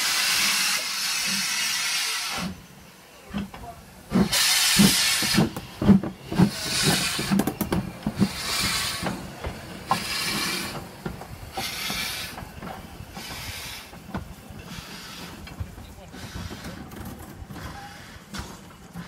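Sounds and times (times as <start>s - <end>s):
steam locomotive hissing beats: 0.0s - 19.0s
train wheels knocking: 3.3s - 19.0s.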